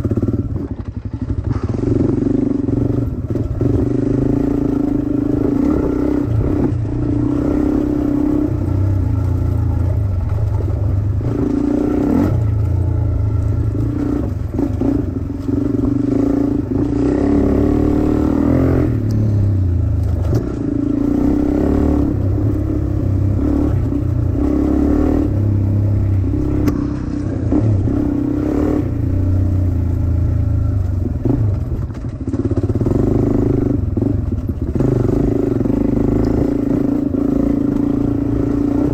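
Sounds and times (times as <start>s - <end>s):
dirt bike engine revving: 0.0s - 31.8s, 32.4s - 38.9s.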